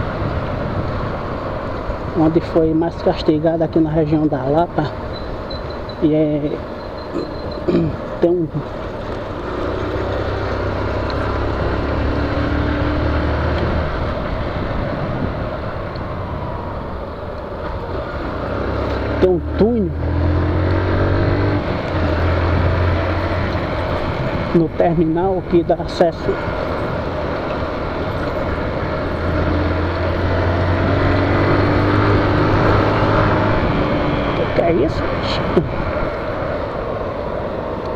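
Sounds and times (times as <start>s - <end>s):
motorcycle engine drone: 0.0s - 37.9s
road and traffic noise: 0.0s - 37.9s.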